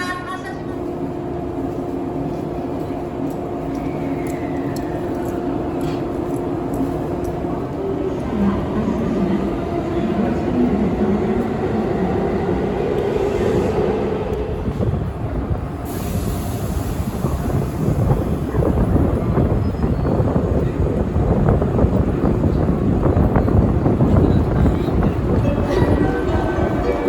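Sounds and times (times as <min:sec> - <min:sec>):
train wheels rumbling: 0:00.0 - 0:27.0
train motor humming: 0:00.6 - 0:27.0.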